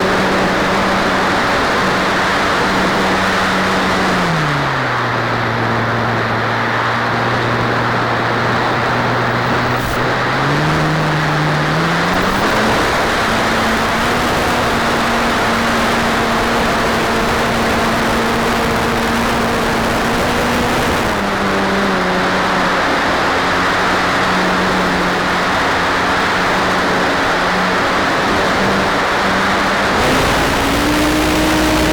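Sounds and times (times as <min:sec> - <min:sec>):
model aircraft motor hum: 0:05.2 - 0:31.9.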